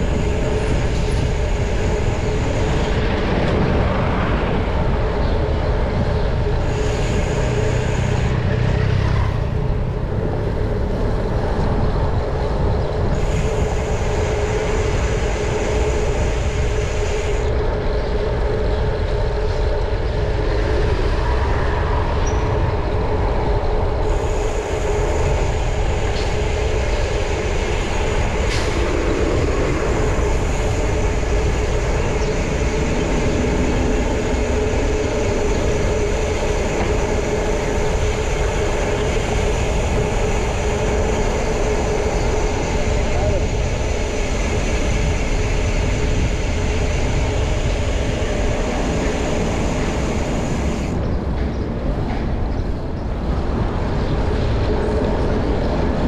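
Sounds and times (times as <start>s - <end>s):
road traffic rumble: 0.0s - 56.0s
wind hiss: 0.0s - 56.0s.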